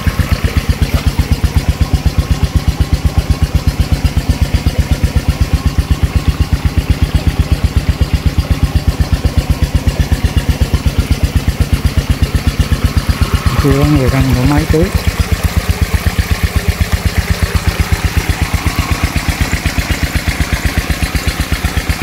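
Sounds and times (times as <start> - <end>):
water pump engine running: 0.0 - 22.0.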